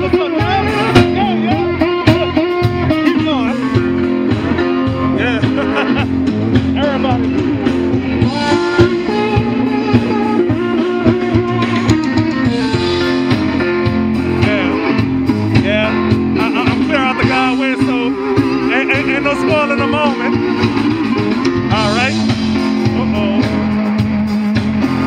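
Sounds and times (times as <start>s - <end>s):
bass line: 0.0s - 25.0s
electric guitar lead: 0.0s - 25.0s.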